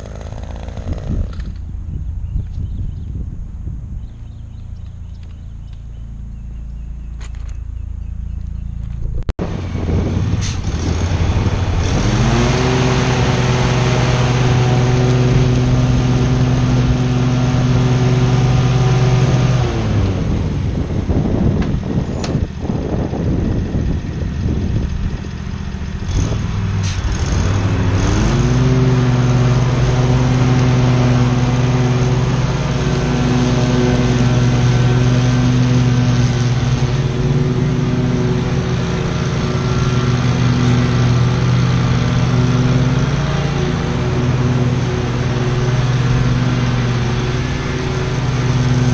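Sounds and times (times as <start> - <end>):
small gasoline engine revving: 0.0 - 1.6, 9.4 - 48.9.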